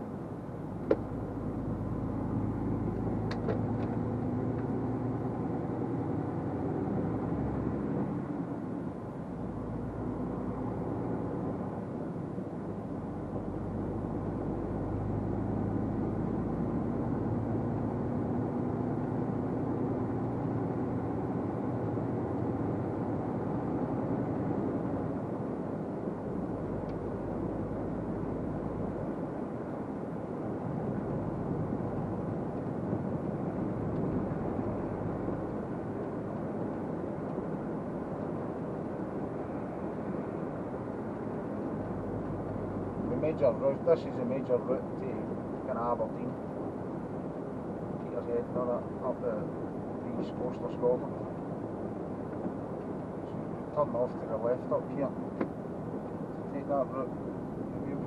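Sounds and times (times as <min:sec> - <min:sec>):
truck engine drone: 0:00.0 - 0:54.0
road noise: 0:00.0 - 0:58.0.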